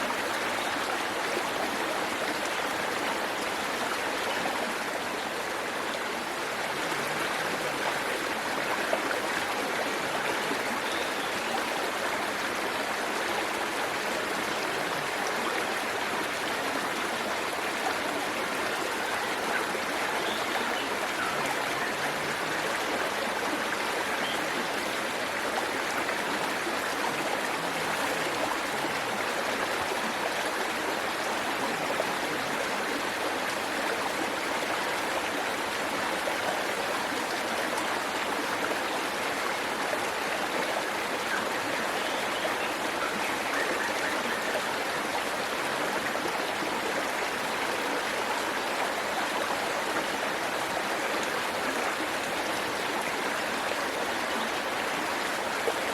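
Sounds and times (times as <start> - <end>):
waterfall rushing and splashing: 0.0 - 55.9.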